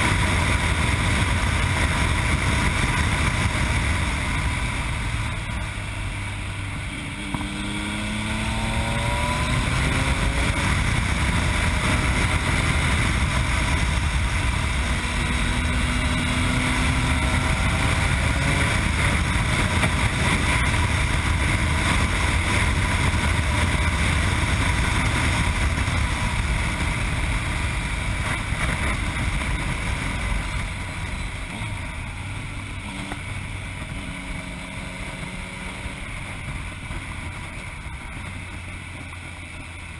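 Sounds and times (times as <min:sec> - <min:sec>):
wind rush: 0:00.0 - 0:38.7
motorcycle engine accelerating: 0:00.0 - 0:39.9.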